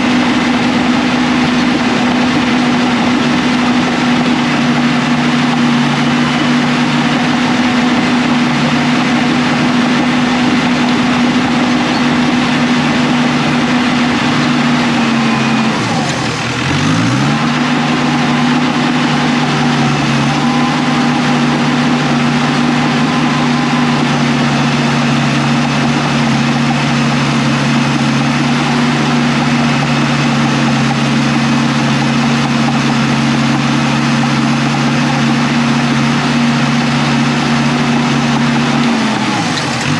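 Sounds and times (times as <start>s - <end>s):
diesel engine at high revs: 0.0s - 39.9s.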